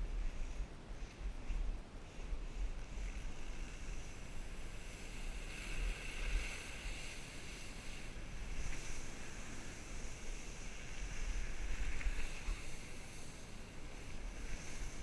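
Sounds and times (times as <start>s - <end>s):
skis sliding over snow: 0.0s - 15.0s.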